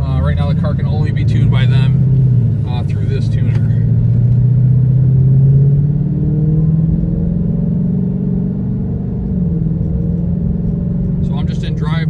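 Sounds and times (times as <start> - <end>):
car engine heard from cabin: 0.0 - 12.0.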